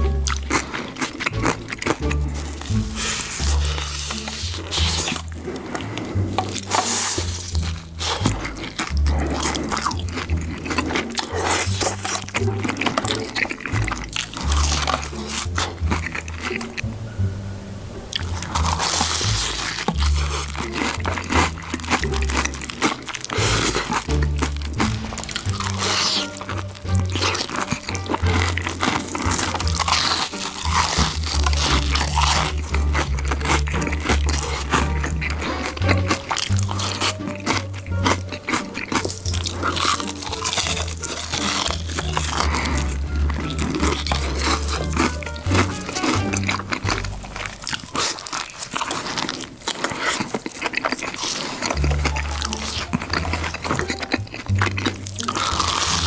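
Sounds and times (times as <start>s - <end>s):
crunching fried chicken: 0.0s - 16.9s, 18.1s - 56.0s
person chewing crispy food: 0.0s - 16.9s, 18.1s - 56.0s
background music: 0.0s - 56.0s.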